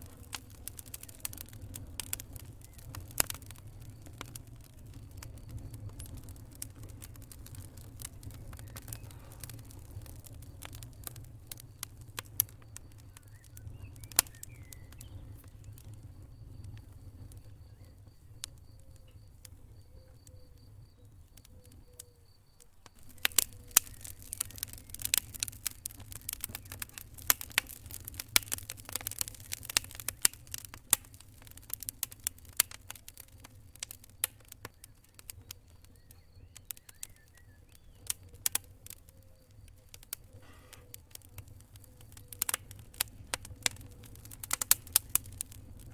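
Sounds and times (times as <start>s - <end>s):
low rumble of burning: 0.0s - 45.9s
wood fire crackling and popping: 0.0s - 45.9s.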